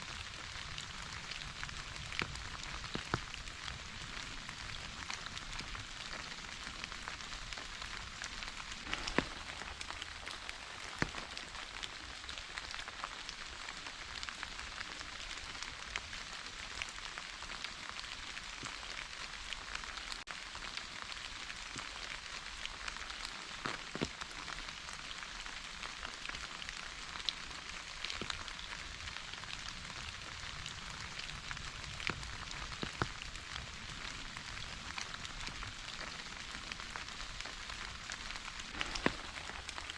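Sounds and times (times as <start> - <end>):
rain drop ticks: 0.0 - 39.9
steady rain falling: 0.0 - 39.9.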